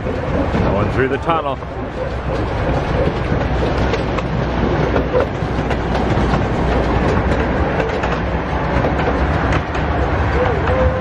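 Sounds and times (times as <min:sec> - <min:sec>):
miniature train rumbling: 0:00.0 - 0:11.0
wheels clicking on rails: 0:00.0 - 0:11.0.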